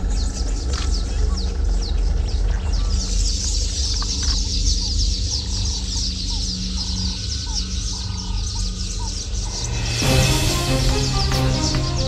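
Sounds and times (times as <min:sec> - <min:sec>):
birds chirping high: 0:00.0 - 0:12.0
lower repeated bird calls: 0:00.0 - 0:12.0.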